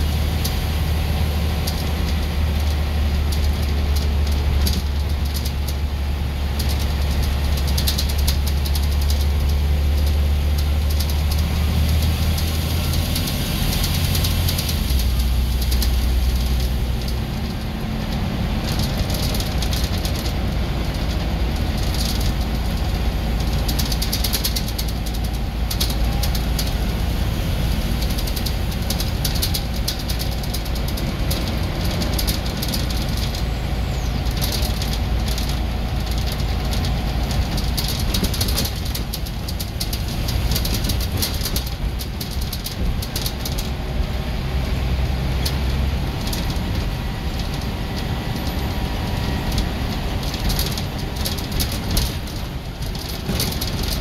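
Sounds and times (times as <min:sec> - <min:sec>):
bus diesel engine: 0:00.0 - 0:54.0
light rattles: 0:00.0 - 0:54.0.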